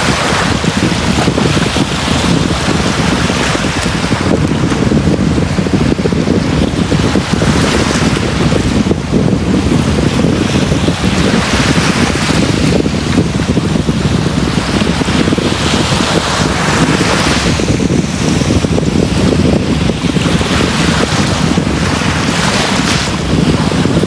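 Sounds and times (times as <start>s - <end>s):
sea waves washing up a beach: 0.0s - 24.0s
wind buffeting microphone: 0.0s - 24.0s.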